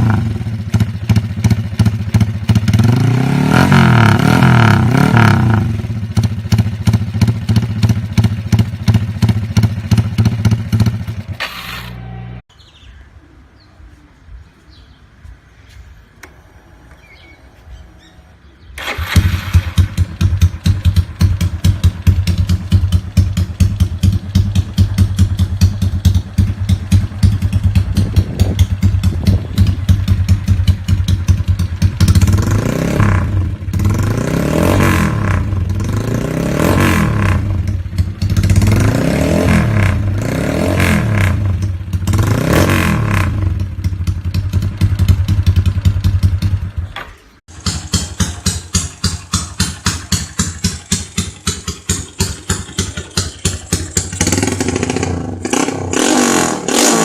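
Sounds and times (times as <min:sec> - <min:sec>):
motorcycle engine idling: 0:00.0 - 0:03.0, 0:03.7 - 0:12.4, 0:16.9 - 0:40.2, 0:43.0 - 0:55.5
motorcycle throttle revving: 0:00.0 - 0:12.4, 0:16.2 - 0:57.0.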